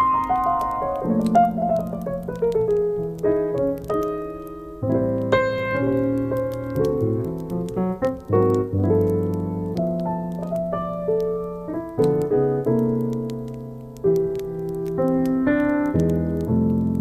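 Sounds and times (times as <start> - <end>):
slow piano music: 0.0 - 17.0
wood fire crackling: 0.0 - 17.0.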